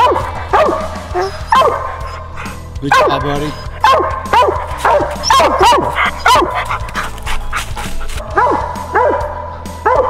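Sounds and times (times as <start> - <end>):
hound barking: 0.0 - 10.0.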